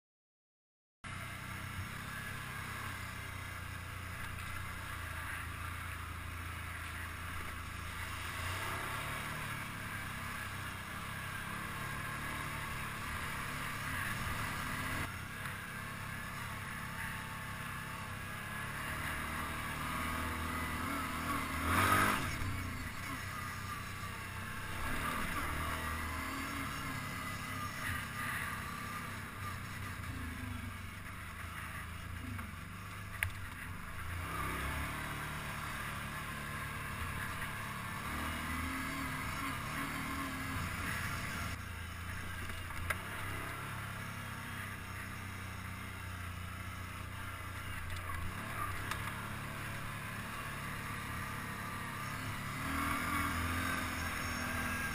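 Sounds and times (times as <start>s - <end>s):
quad bike engine running: 1.0s - 54.9s.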